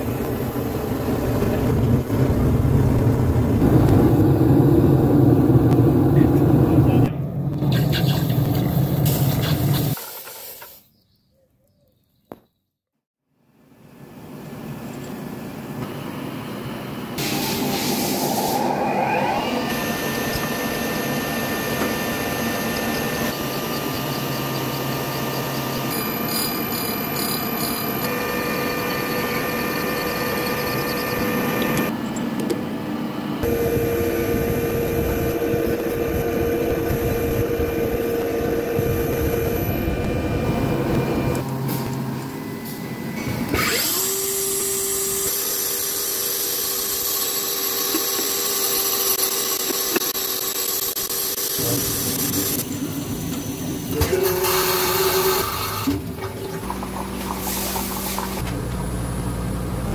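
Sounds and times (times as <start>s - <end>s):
grinding machine whine: 0.0s - 10.0s, 14.6s - 59.9s.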